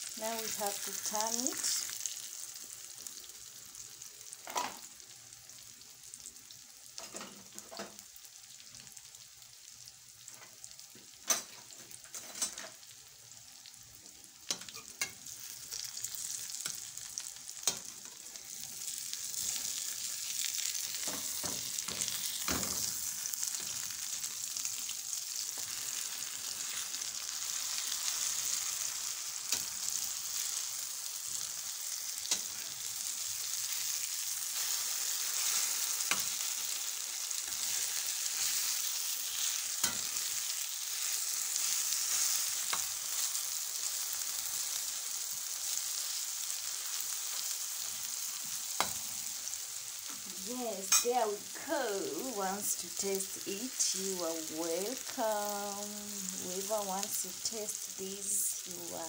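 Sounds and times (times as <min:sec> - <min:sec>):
omelette sizzling in oil: 0:00.0 - 0:59.0.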